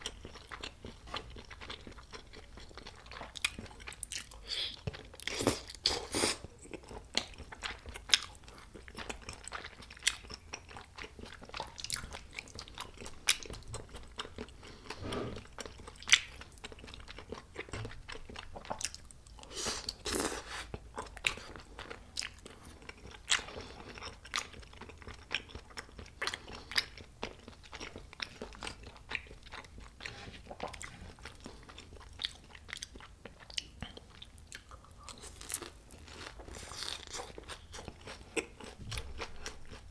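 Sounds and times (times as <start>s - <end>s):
person chewing with mouth clicks: 0.0s - 39.9s.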